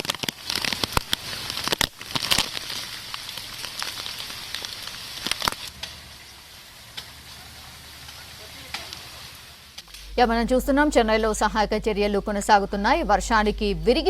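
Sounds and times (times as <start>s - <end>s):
crackles of raindrops striking: 0.0s - 14.0s
heavy rain hiss: 0.0s - 14.0s.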